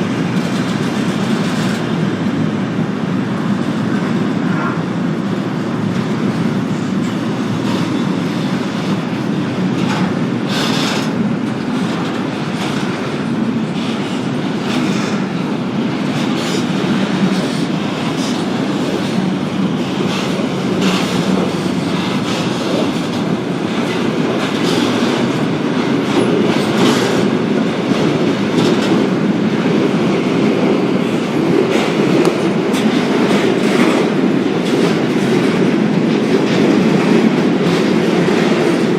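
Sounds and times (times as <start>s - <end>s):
wheels clacking over rail joints: 0.0s - 4.4s, 5.0s - 38.9s
freight train rolling on track: 0.0s - 38.9s.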